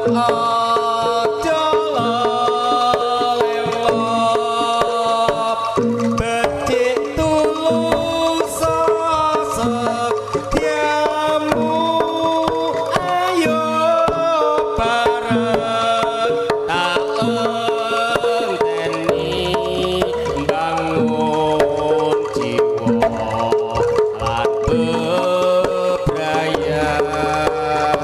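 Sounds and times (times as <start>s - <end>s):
hand drum beat: 0.0s - 28.0s
wavering held melody: 0.0s - 28.0s.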